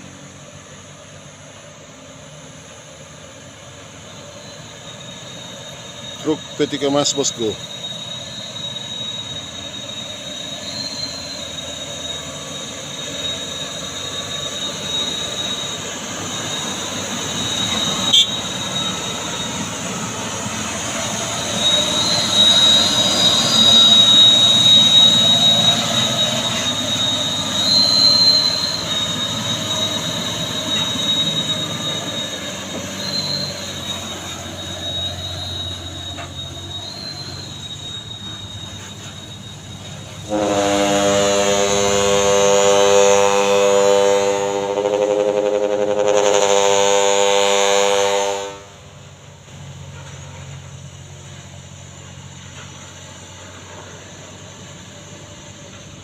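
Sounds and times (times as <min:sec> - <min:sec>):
truck engine rumble: 0:00.0 - 0:47.6, 0:48.6 - 0:56.0
high-pitched squeal: 0:00.0 - 0:56.0.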